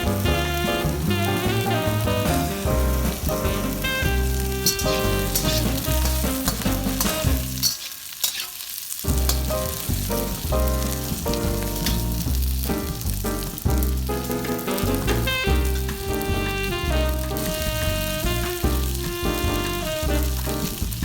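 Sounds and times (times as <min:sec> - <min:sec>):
background music with bass line: 0:00.0 - 0:07.6, 0:09.1 - 0:21.0
food sizzling in a hot pan: 0:00.0 - 0:21.0.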